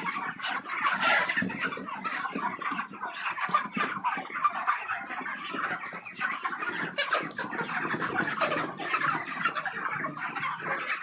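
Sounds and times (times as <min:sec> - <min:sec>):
chickens clucking and cheeping: 0:00.0 - 0:11.0.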